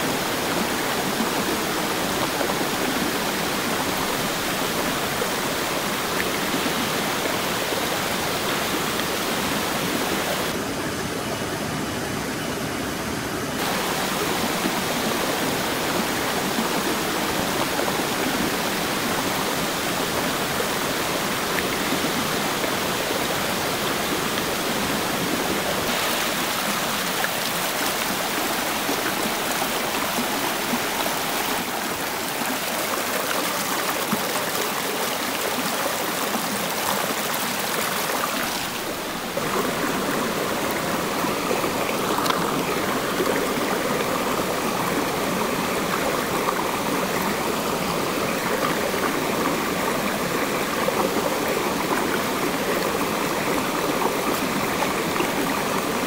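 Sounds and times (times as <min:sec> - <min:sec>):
stream flowing over boulders: 0:00.0 - 0:56.0.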